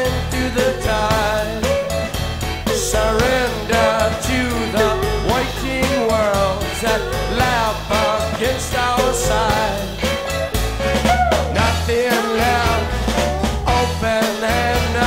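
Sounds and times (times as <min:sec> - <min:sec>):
bass: 0:00.0 - 0:15.0
drums: 0:00.0 - 0:15.0
slide guitar: 0:00.0 - 0:15.0.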